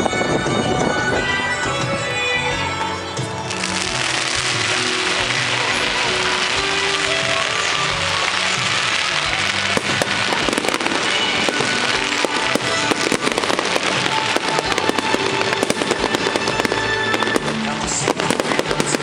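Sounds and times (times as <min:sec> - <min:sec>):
fireworks bangs and crackles: 0:00.0 - 0:19.0
loud show music: 0:00.0 - 0:19.0.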